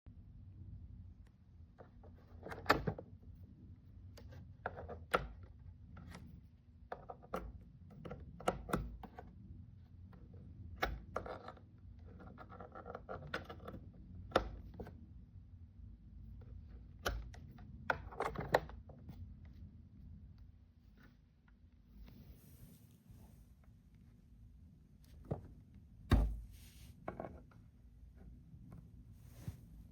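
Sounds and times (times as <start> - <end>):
low steady hum: 0.1 - 29.9.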